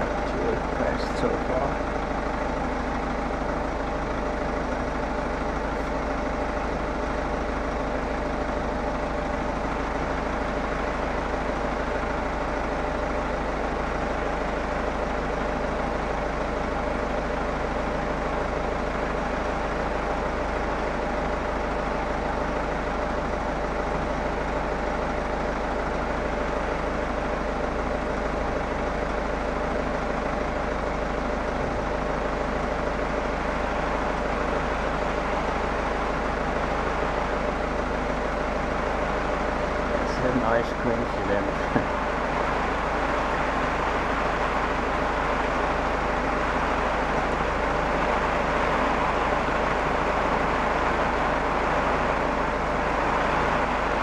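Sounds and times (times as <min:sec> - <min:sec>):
engine idling hum: 0:00.0 - 0:54.0.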